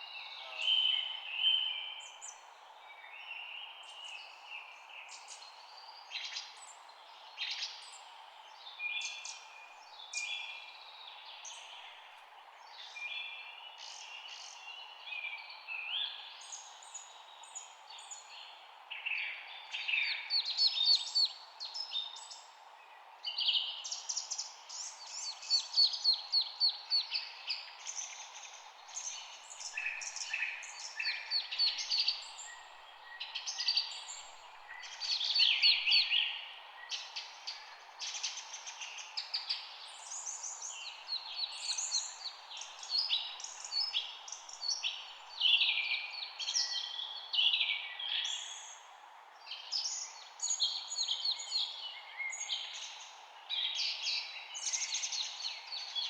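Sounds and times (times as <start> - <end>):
low background hiss: 0.0 - 56.0
songbirds chirping: 0.0 - 56.0.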